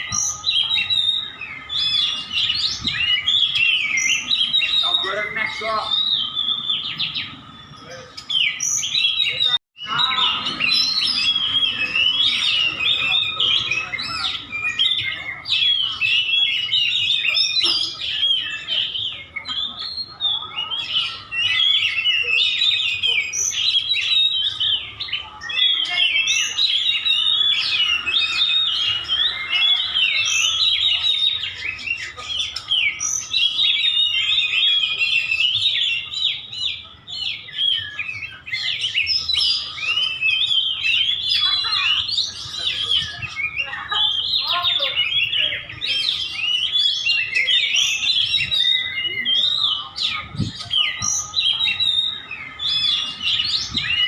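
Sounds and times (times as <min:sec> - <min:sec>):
bird whistling song: 0:00.0 - 0:54.0.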